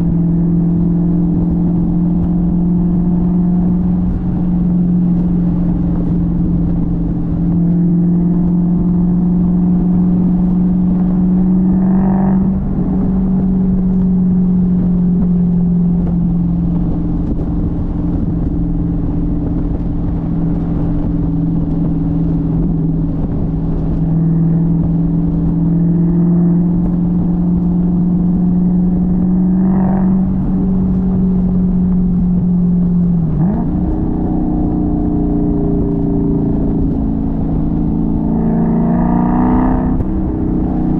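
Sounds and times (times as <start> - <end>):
car engine and exhaust drone: 0.0 - 40.9.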